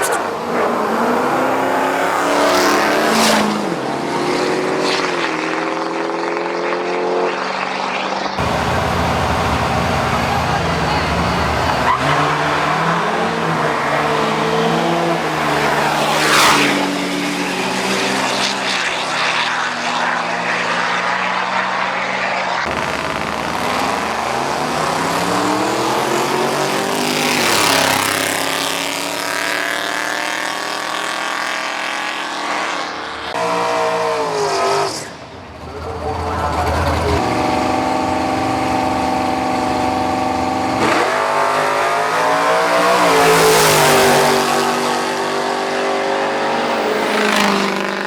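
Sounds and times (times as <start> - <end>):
drag racing engines accelerating: 0.0 - 48.0.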